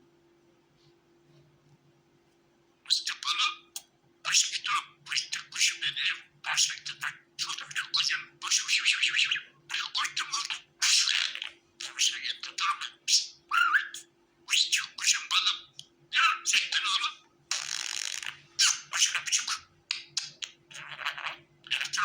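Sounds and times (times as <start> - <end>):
faint steady hum: 0.0 - 22.0
budgerigar warbling and chattering: 2.9 - 22.0.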